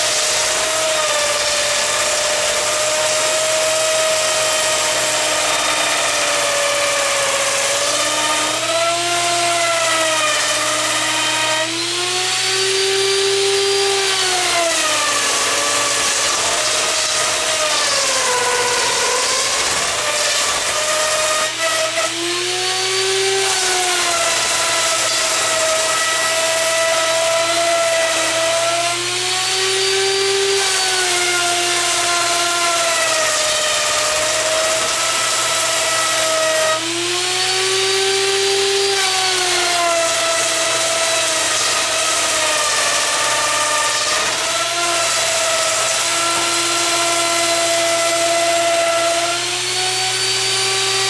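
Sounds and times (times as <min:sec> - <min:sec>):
router whining cutting wood: 0:00.0 - 0:51.0.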